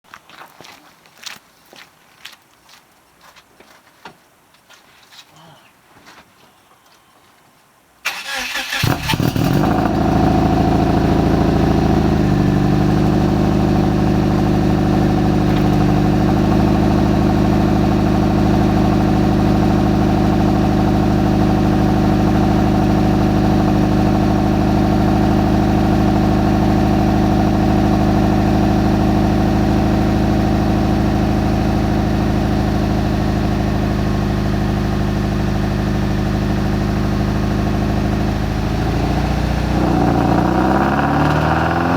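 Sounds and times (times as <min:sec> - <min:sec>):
car engine idling: 0:08.1 - 0:41.9.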